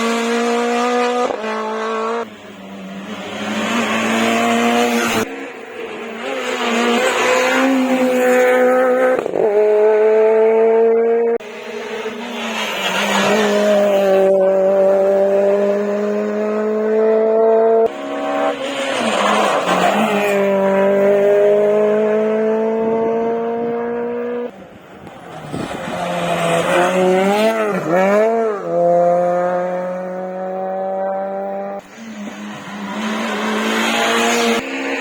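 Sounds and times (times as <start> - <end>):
rally car engines revving past: 0.0 - 35.0.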